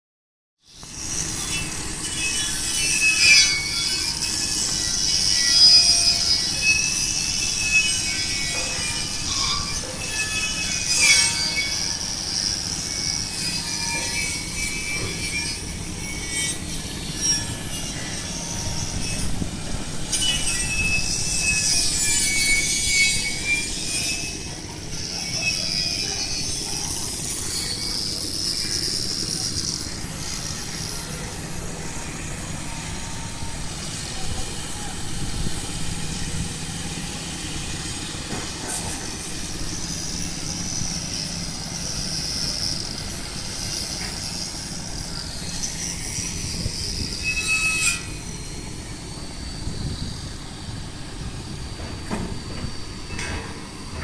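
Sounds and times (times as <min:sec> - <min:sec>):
metal squealing and grinding: 0:00.7 - 0:54.0
low machinery hum: 0:00.8 - 0:54.0.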